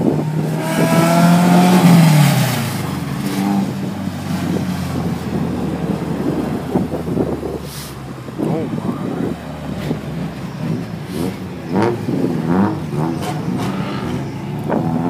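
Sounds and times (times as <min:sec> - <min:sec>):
car engine revving: 0:00.0 - 0:15.0
engines of following cars: 0:00.0 - 0:15.0.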